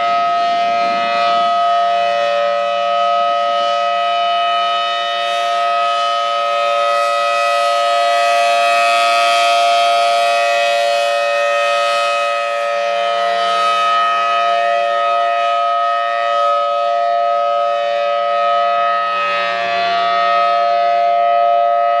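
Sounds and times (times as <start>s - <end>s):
emergency alert alarm tones: 0.0s - 22.0s.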